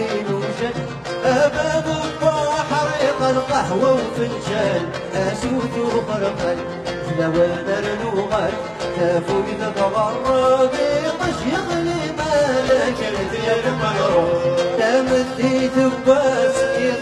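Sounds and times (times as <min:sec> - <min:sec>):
man singing: 0:00.0 - 0:17.0
strummed acoustic guitars: 0:00.0 - 0:17.0.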